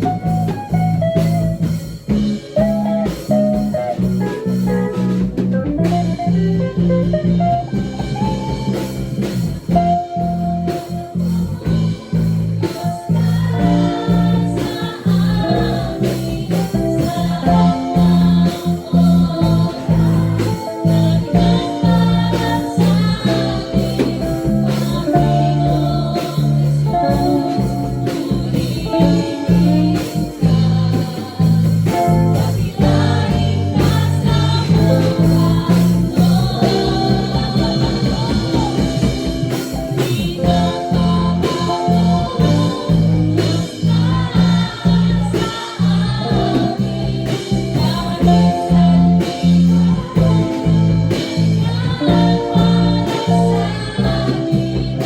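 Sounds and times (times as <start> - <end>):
instrumental accompaniment: 0.0 - 55.0
steady bass line: 0.0 - 55.0
person singing: 10.6 - 55.0.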